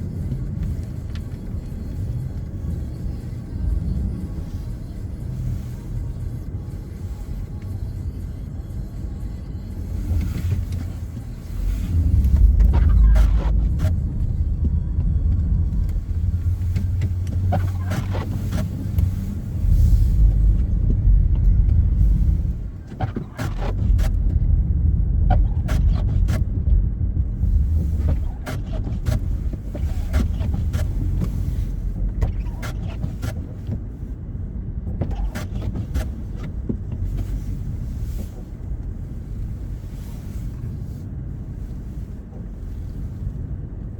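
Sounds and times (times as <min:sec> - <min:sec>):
car road noise rumble: 0:00.0 - 0:43.9.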